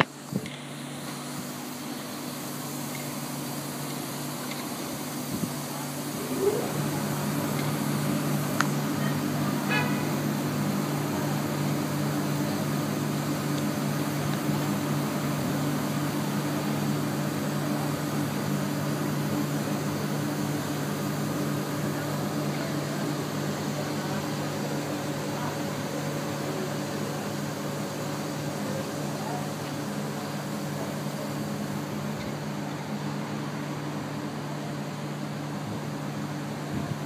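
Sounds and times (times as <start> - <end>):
electric train humming: 0.0 - 37.0.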